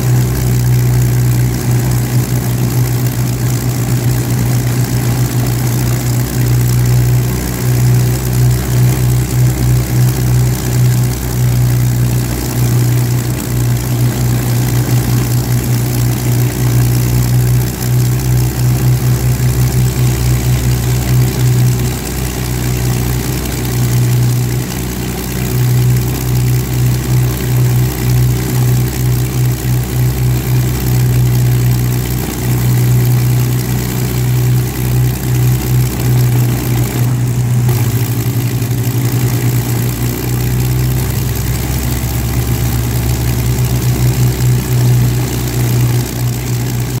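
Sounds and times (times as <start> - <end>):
aircraft piston engines idling: 0.0 - 47.0.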